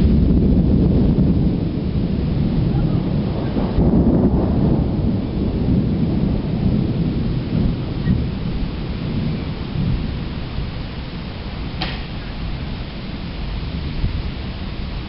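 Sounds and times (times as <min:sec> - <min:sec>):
rolling thunder: 0:00.0 - 0:15.0
steady rain: 0:00.0 - 0:15.0.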